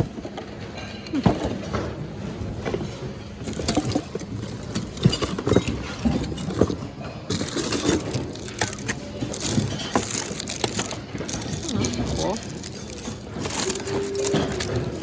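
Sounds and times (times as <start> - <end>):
store background noise: 0.0 - 15.0
goods knocking and clattering: 0.1 - 15.0.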